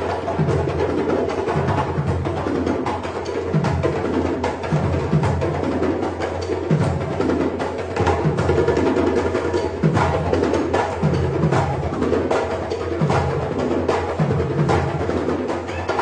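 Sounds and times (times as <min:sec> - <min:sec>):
hand drums playing: 0:00.0 - 0:16.0.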